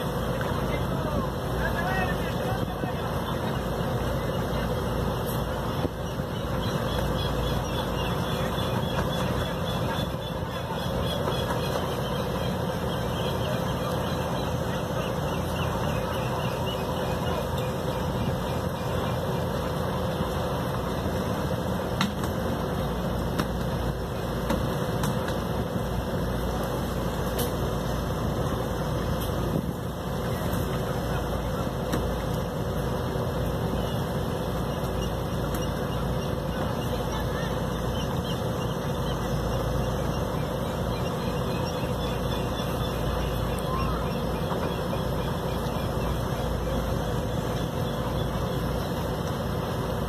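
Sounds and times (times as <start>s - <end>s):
boat engine running: 0.0s - 50.0s.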